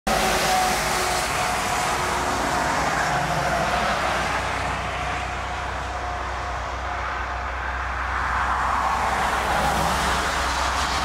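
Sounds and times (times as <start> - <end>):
jet engines rushing and whining: 0.1 - 11.0.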